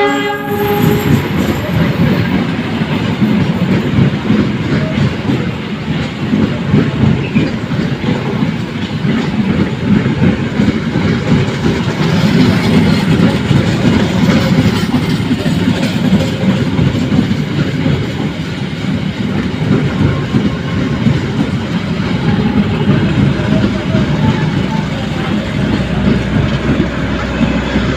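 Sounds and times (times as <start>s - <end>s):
train rumbling: 0.0s - 27.9s
wheels clacking on rails: 0.0s - 27.9s.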